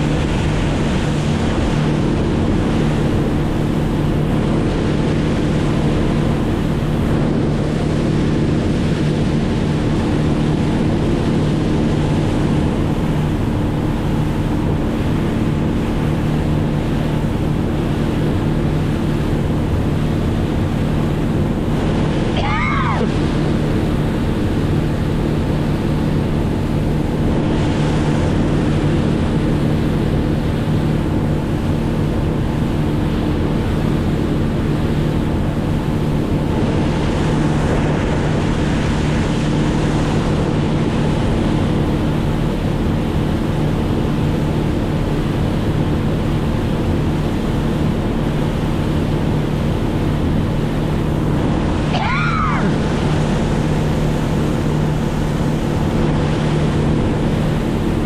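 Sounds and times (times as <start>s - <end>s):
boat motor running: 0.0s - 58.0s
water rushing past hull: 0.0s - 58.0s.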